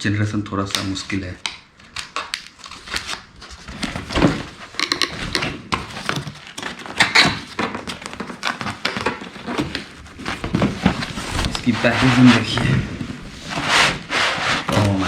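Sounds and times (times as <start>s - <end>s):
packaging rustling and scraping: 0.8s - 15.0s.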